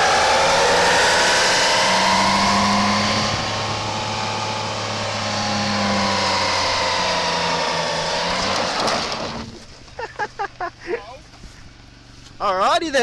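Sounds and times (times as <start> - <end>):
engine running with high whine: 0.0 - 13.0.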